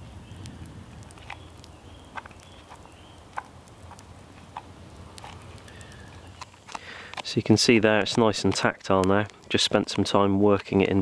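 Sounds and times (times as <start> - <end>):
low steady woodland background: 0.0 - 11.0
sharp ticks and clicks: 0.0 - 11.0.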